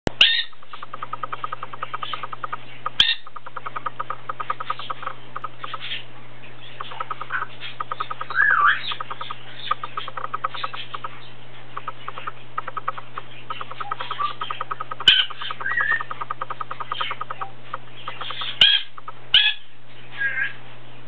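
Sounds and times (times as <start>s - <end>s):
steady low hum: 0.1s - 21.0s
parrot chattering: 0.2s - 20.6s.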